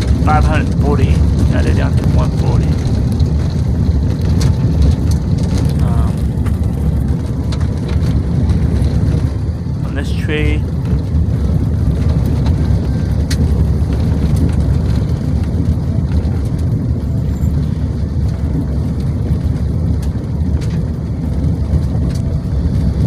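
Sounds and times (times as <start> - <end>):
car driving on road: 0.0 - 23.0.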